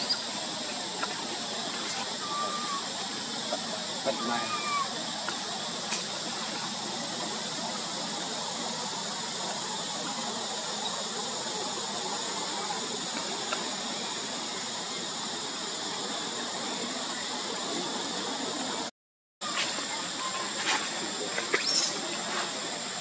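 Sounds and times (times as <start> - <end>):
high-pitched insect chorus: 0.0 - 18.8, 19.4 - 23.0.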